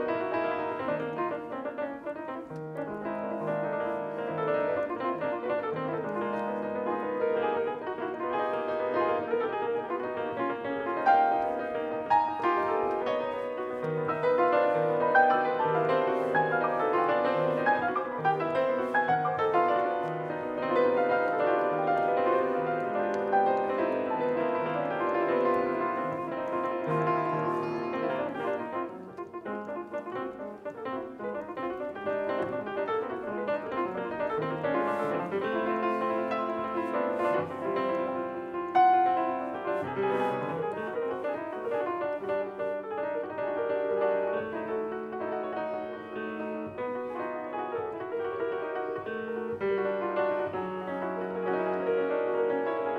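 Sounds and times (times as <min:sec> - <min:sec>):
grand piano playing: 0:00.0 - 0:52.9.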